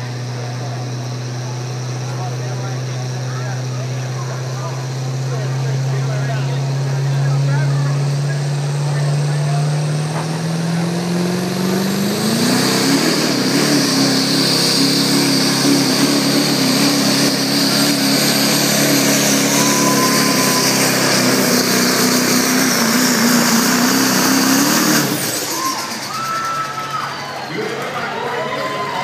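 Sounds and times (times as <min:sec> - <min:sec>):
diesel truck engine at full throttle: 0:00.0 - 0:29.0.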